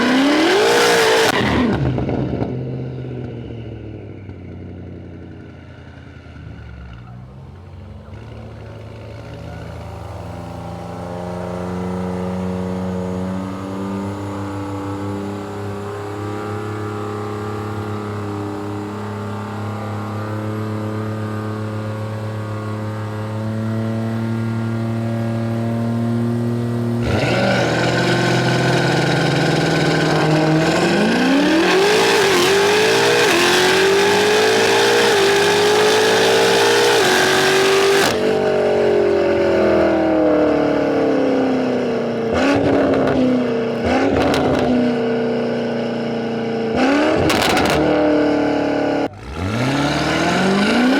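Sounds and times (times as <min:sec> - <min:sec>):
car engine revving and accelerating: 0:00.0 - 0:02.8, 0:08.1 - 0:50.9.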